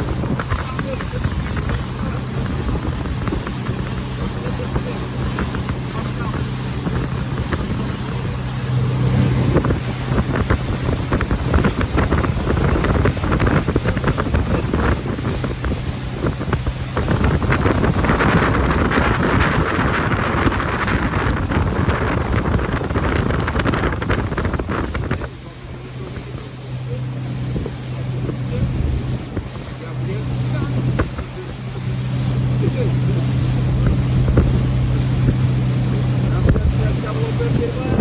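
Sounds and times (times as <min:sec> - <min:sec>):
motorboat engine running: 0:00.0 - 0:38.0
water rushing past hull: 0:00.0 - 0:38.0
wind buffeting microphone: 0:00.0 - 0:38.0.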